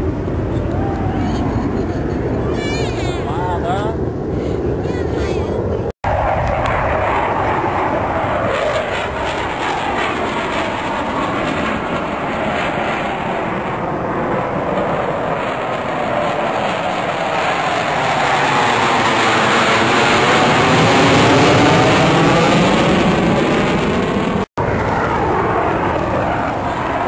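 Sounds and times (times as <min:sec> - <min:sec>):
jet engine roar flying over: 0:00.0 - 0:27.0.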